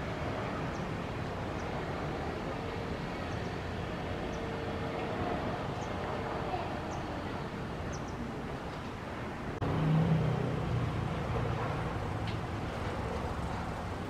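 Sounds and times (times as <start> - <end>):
low road rumble: 0.0 - 14.0
nearby vehicle engine hum: 0.0 - 14.0.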